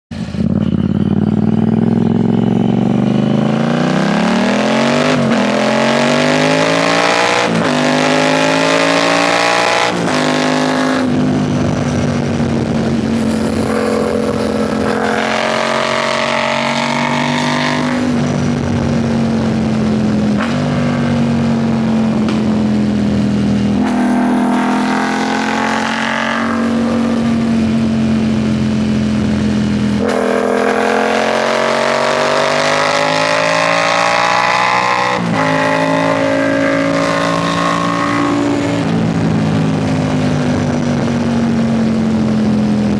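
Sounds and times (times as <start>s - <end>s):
motorcycle engine accelerating: 0.1s - 42.9s.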